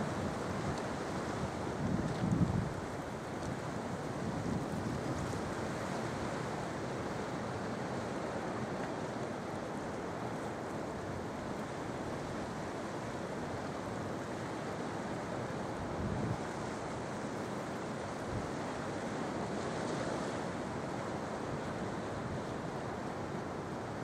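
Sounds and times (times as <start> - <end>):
sea surf breaking on shore: 0.0 - 24.0.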